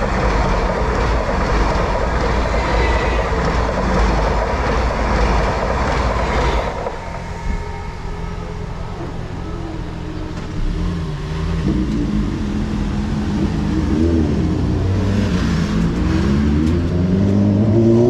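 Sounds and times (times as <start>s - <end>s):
car engines accelerating: 0.0s - 18.0s.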